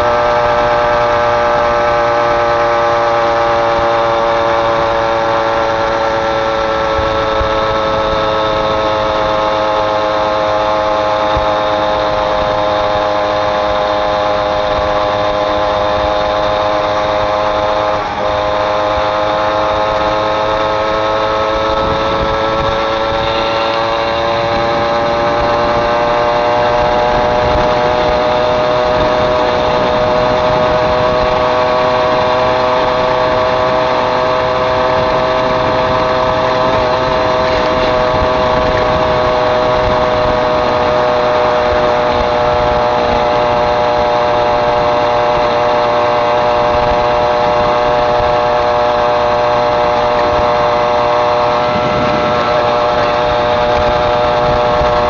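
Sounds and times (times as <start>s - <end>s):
moped engine running: 0.0s - 55.0s.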